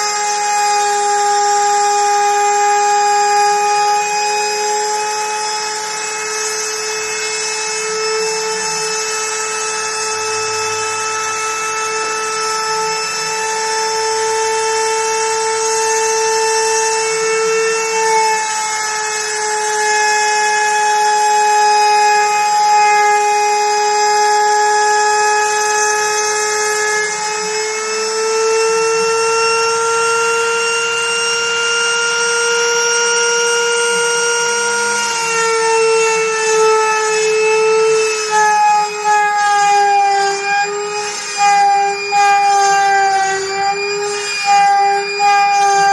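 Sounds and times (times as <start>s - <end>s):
router spindle whining cutting wood: 0.0s - 45.9s.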